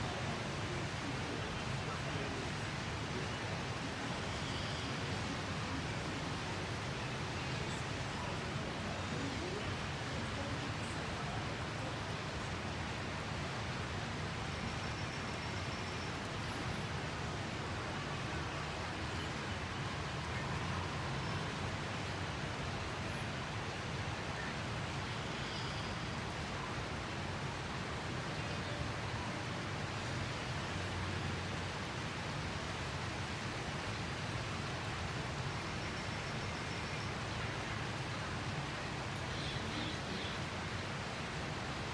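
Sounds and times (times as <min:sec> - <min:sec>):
outdoor background hiss: 0:00.0 - 0:41.9.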